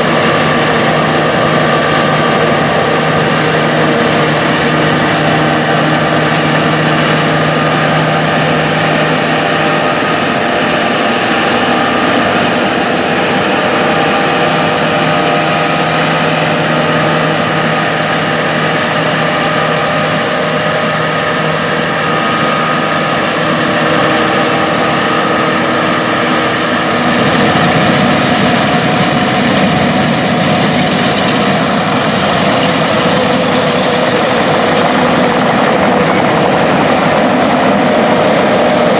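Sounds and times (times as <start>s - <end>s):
combine harvester engine drone: 0.0s - 38.9s
steady machinery whines: 0.0s - 38.9s.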